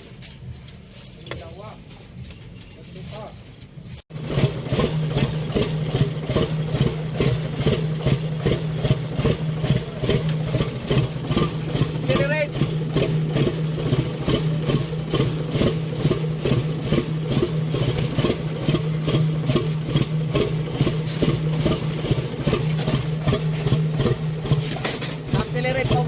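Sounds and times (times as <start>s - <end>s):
diesel engine pulsing: 3.8s - 26.0s.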